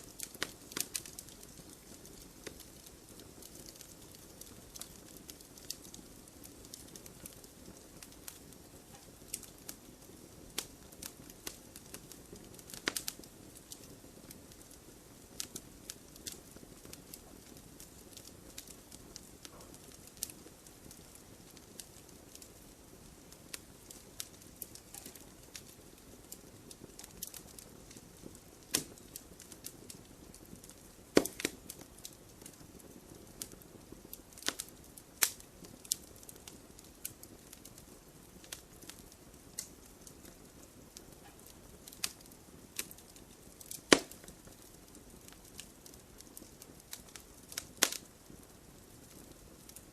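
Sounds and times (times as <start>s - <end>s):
burning wood popping and snapping: 0.0s - 49.9s
hiss of flames: 0.0s - 49.9s.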